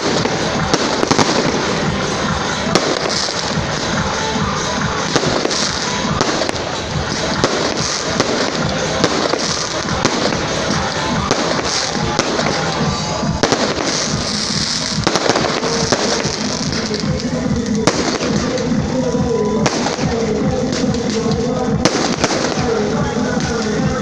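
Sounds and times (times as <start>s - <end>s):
fireworks bangs: 0.0s - 24.0s
music playing: 0.0s - 24.0s.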